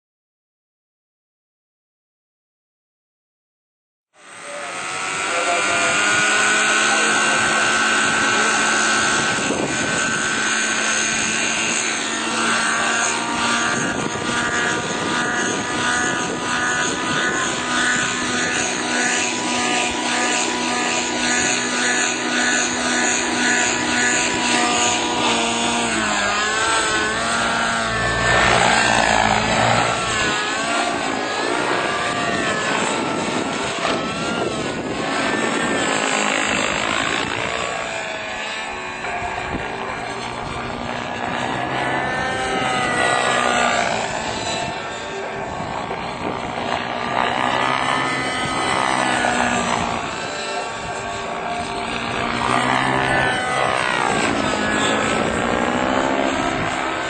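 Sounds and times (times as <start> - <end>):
model helicopter engine and rotor: 4.2 - 57.0.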